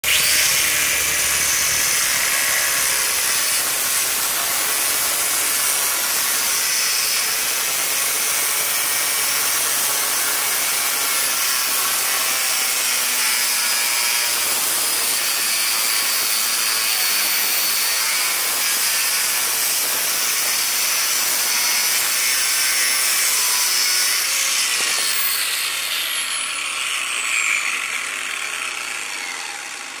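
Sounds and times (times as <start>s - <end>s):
angle grinder cutting metal: 0.0s - 30.0s.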